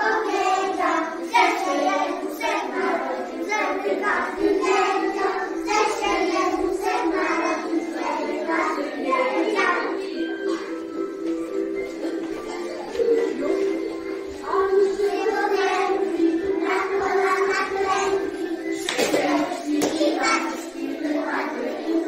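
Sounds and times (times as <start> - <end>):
children singing in unison: 0.0 - 22.0.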